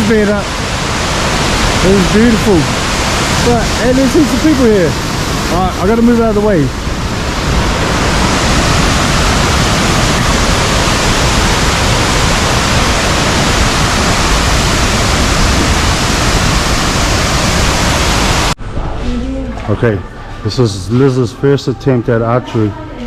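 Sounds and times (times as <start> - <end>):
waterfall rushing: 0.0 - 18.6.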